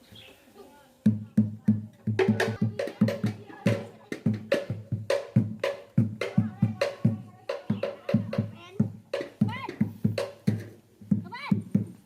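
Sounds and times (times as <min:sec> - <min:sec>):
music with fast drum beat: 0:01.1 - 0:12.0.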